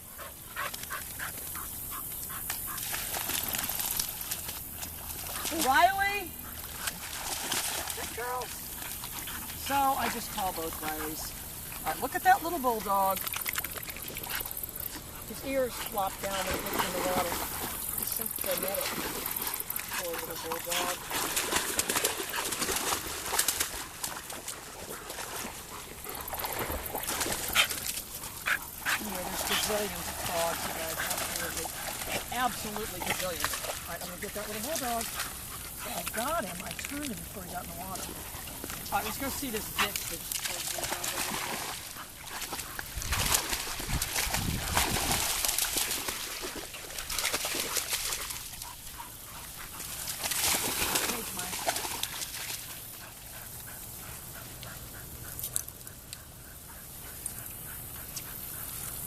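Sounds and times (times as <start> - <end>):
dog panting: 0.0 - 3.0, 4.8 - 13.4, 14.2 - 44.9, 47.5 - 59.0.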